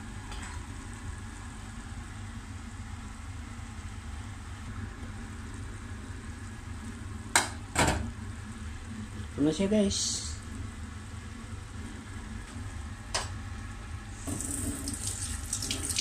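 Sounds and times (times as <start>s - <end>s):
food frying in a pan: 0.0s - 16.0s.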